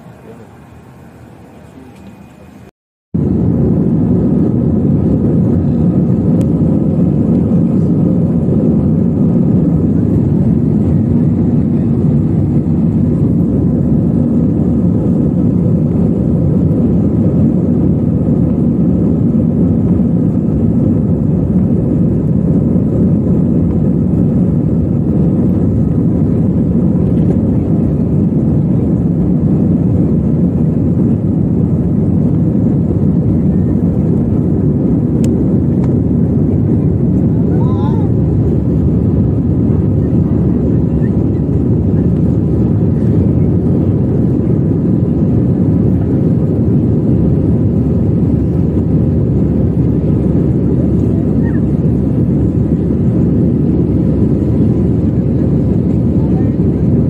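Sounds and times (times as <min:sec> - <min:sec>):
jet engines low drone in cabin: 0:00.0 - 0:57.0.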